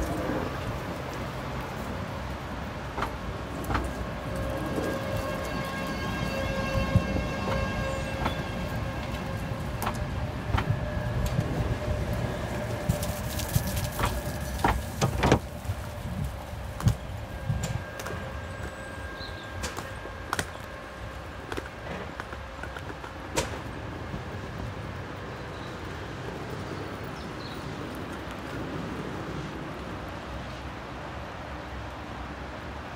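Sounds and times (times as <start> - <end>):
wheels clicking over rail joints: 0.0 - 30.6
tram whine: 0.0 - 32.9.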